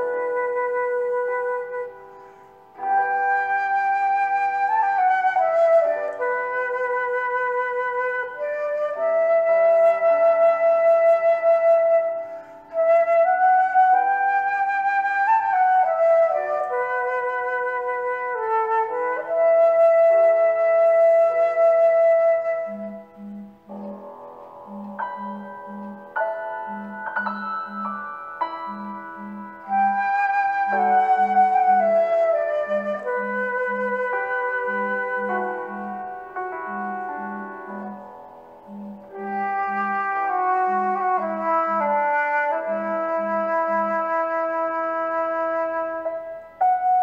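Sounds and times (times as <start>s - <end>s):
slow instrumental music: 0.0s - 47.0s.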